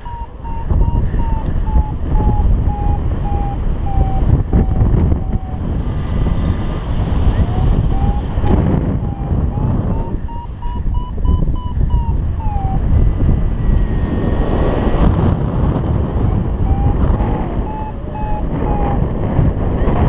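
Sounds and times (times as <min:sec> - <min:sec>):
variometer beeping: 0:00.0 - 0:15.1, 0:15.8 - 0:19.6
wind rushing over microphone: 0:00.0 - 0:20.0.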